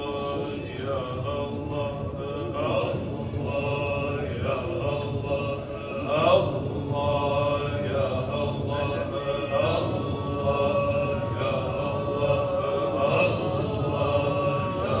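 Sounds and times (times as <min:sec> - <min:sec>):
man chanting prayer: 0:00.0 - 0:15.0.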